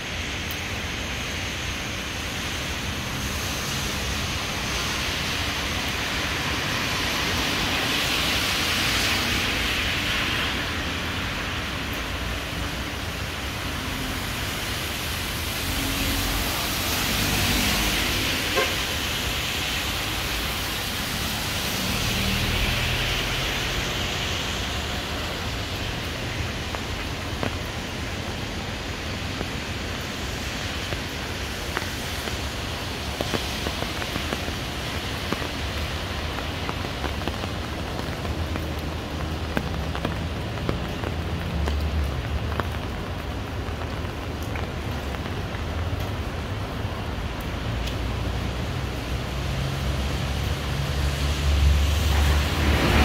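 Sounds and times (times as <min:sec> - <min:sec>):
rain hissing on pavement: 0:00.0 - 0:53.0
tyre hiss on wet road: 0:00.0 - 0:53.0.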